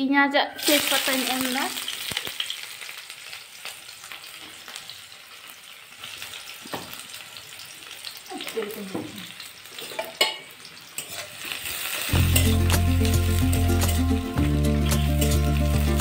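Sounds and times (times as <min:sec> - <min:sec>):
onion sizzling in hot oil: 0:00.6 - 0:16.0.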